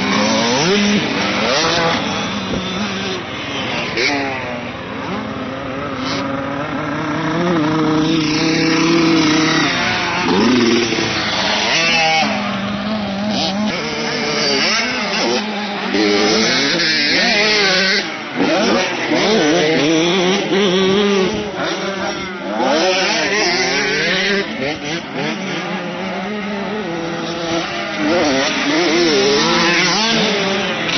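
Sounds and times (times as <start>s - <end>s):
motocross motorcycle engines revving: 0.0s - 30.9s.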